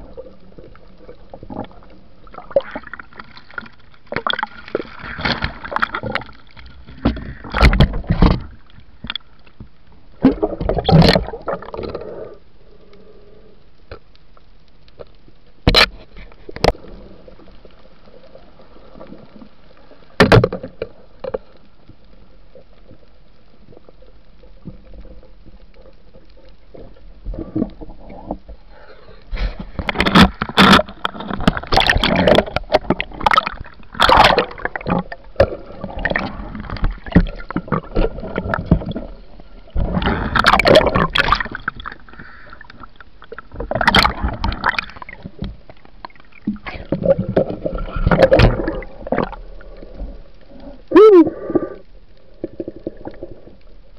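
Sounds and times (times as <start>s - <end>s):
water splashing and gurgling: 0.0s - 12.8s, 14.9s - 53.9s.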